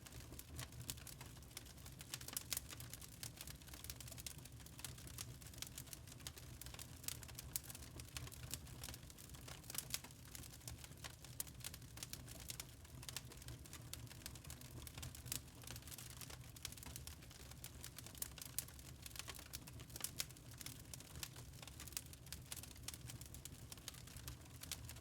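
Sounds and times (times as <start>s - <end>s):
log fire crackling: 0.0s - 25.0s.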